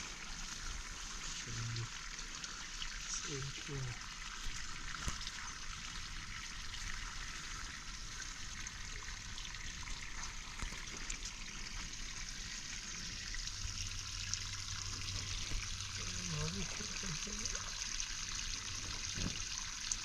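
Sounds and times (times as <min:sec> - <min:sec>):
water trickling: 0:00.0 - 0:20.0.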